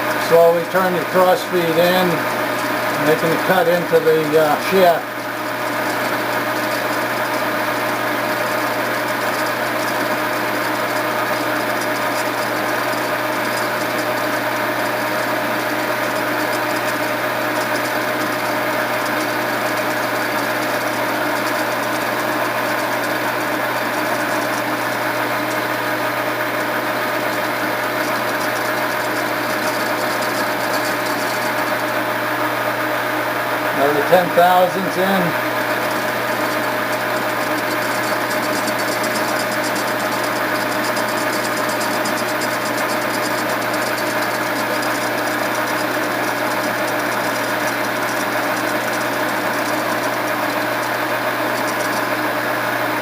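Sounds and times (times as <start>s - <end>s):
lathe machine drone: 0.0s - 53.0s.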